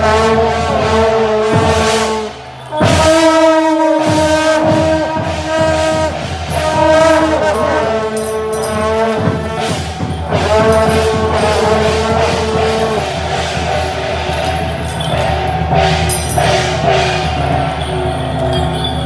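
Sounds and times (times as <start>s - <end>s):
drums and clashing percussion: 0.0s - 19.0s
wind instruments holding long notes: 0.0s - 19.0s.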